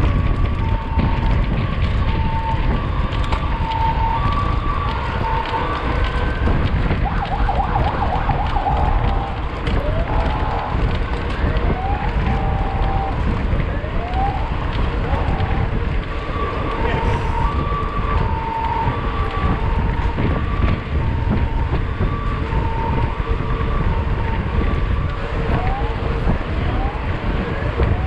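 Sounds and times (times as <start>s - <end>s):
bike rattles and clicks: 0.0s - 28.0s
wind rushing over microphone: 0.0s - 28.0s.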